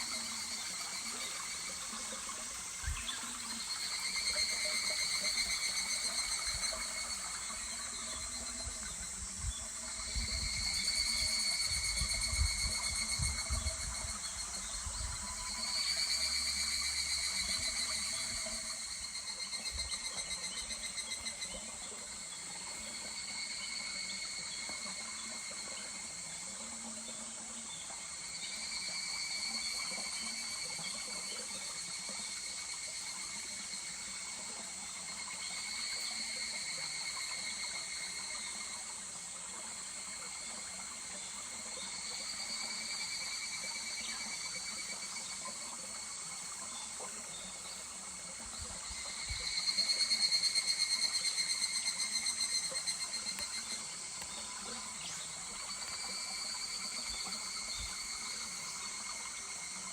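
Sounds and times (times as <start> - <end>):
cicadas pulsing trills: 0.0 - 59.9.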